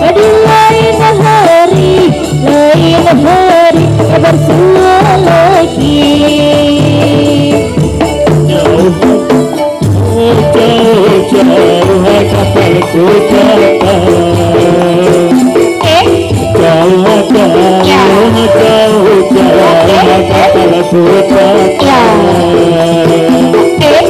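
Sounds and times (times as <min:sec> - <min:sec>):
drumming in a steady rhythm: 0:00.0 - 0:24.0.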